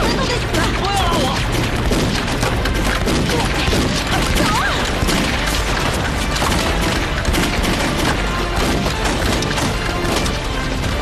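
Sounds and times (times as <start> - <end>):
rifle gunfire: 0.0 - 10.7
dramatic background music: 0.0 - 11.0.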